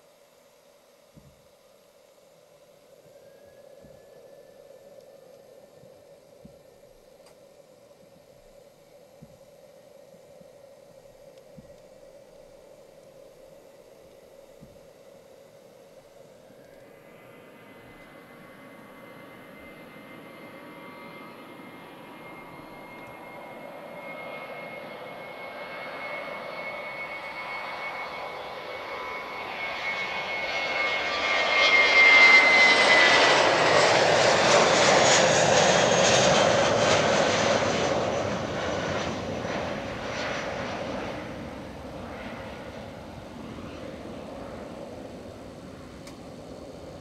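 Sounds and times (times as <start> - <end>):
jet airliner engines: 0.0 - 47.0.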